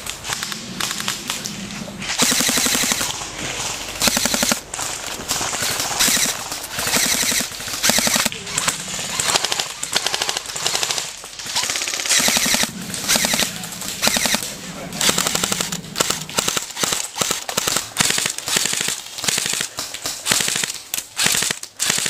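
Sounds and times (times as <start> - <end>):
airsoft guns firing full-auto: 2.2 - 3.2, 4.0 - 22.0.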